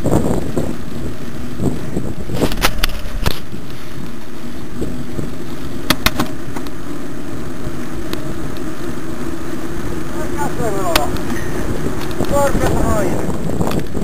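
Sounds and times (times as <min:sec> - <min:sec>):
bike tyres rolling on asphalt: 0:00.0 - 0:14.0
wind buffeting microphone: 0:00.0 - 0:14.0.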